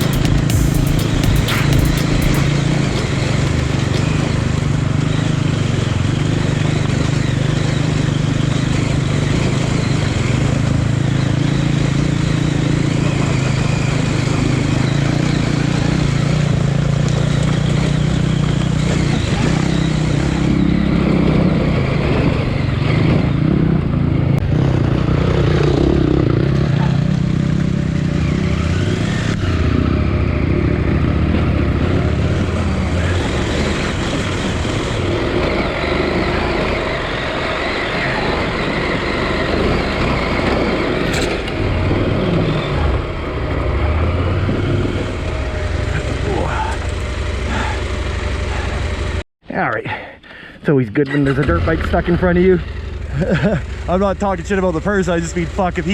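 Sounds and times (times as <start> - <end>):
motorcycle engine revving: 0.0 - 49.2, 51.0 - 55.9.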